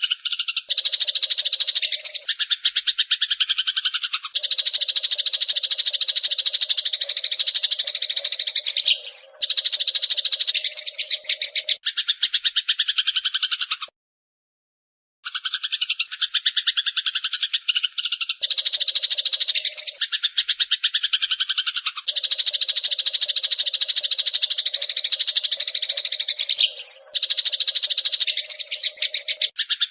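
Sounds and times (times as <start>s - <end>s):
sparrows chattering: 0.0s - 13.9s, 15.2s - 29.9s.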